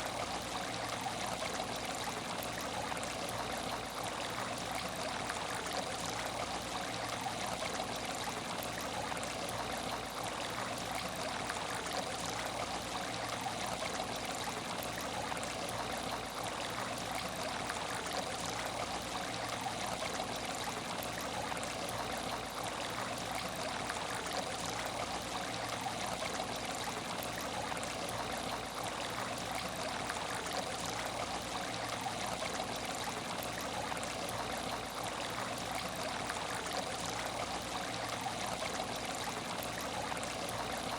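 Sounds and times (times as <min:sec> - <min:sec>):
aquarium water trickling: 0:00.0 - 0:40.9.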